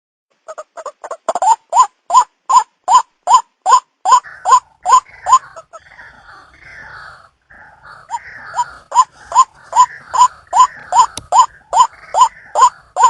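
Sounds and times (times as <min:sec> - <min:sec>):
harsh raspy call: 0:02.5 - 0:13.0.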